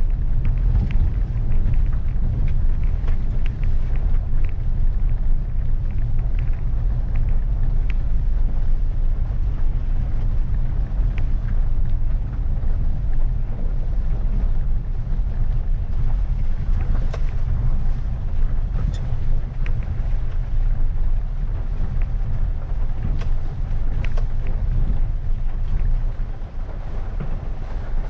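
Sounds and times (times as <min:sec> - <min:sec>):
engine and tyre rumble: 0:00.0 - 0:28.0
light ticks: 0:00.0 - 0:28.0.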